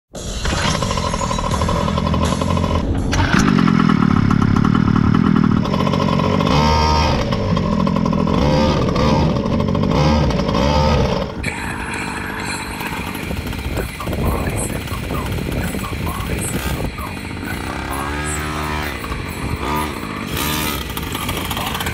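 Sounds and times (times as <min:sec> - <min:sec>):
small two-stroke engine revving: 0:01.1 - 0:21.9.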